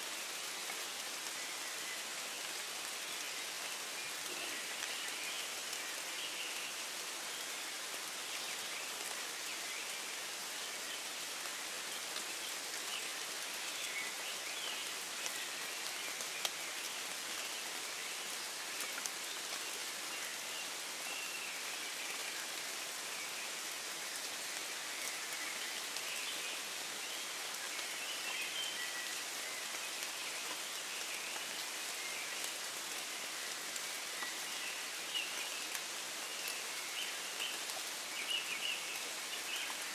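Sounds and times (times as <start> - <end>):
steady rain falling: 0.0 - 39.9
faint birdsong: 2.9 - 39.9.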